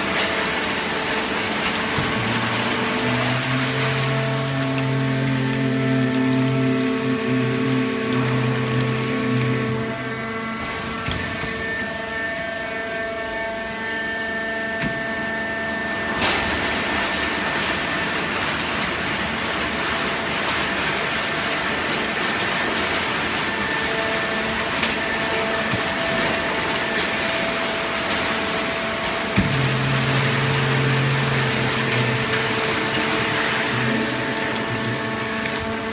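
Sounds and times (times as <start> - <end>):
baler machine hum with whine: 0.0 - 35.9.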